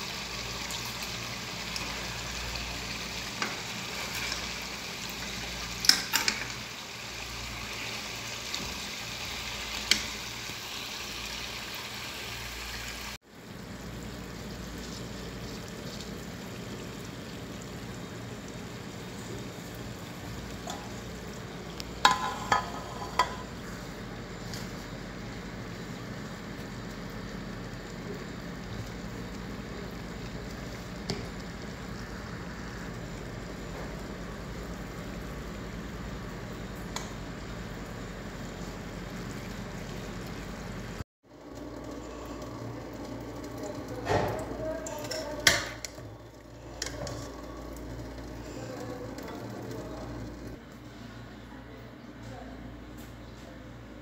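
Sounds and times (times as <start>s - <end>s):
vegetables sizzling in oil: 0.0s - 50.6s.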